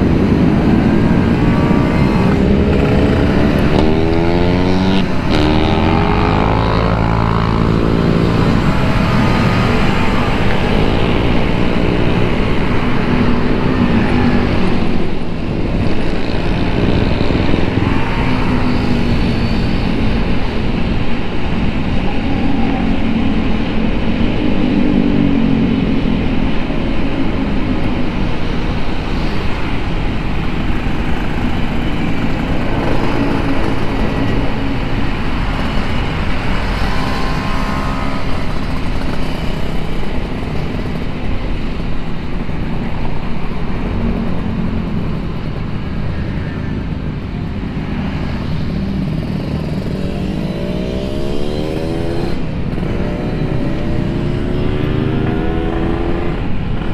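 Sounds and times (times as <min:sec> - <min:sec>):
wind and road rush: 0:00.0 - 0:56.9.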